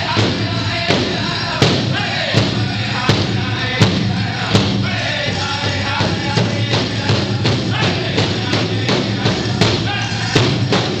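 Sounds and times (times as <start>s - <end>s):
powwow drum beat: 0.0s - 11.0s
singers' voices: 0.0s - 11.0s.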